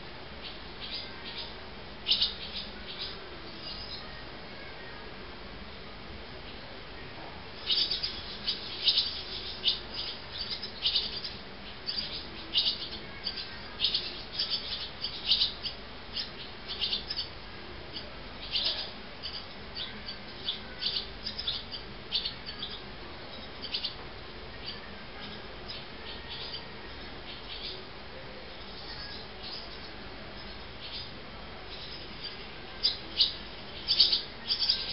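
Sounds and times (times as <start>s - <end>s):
swallows chirping: 0.4s - 4.1s, 7.6s - 24.0s, 24.6s - 27.8s, 28.6s - 31.1s, 31.7s - 34.9s.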